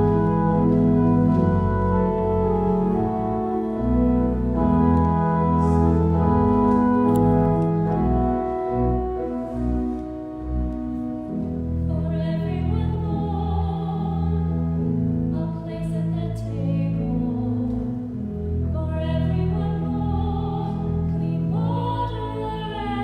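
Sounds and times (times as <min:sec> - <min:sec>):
organ playing hymn chords: 0:00.0 - 0:23.0.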